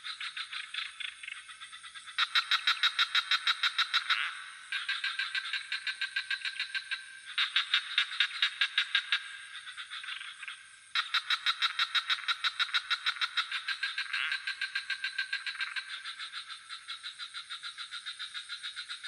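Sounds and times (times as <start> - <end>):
crickets chirring: 0.0 - 19.0
frog chorus croaking: 0.0 - 19.0.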